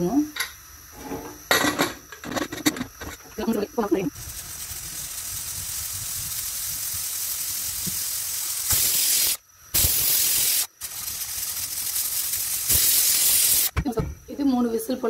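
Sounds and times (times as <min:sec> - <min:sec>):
pressure cooker steam hiss: 0:00.0 - 0:15.0.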